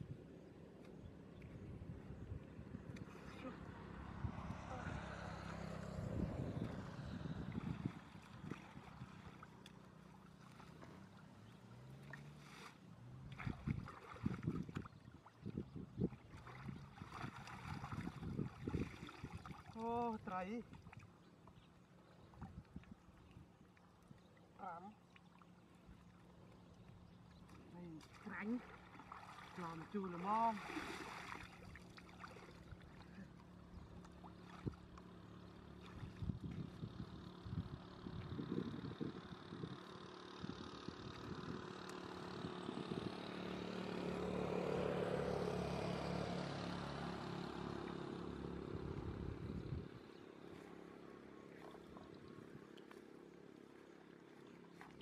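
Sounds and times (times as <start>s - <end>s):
muddy water sloshing and splashing: 2.2s - 38.5s, 43.4s - 55.0s.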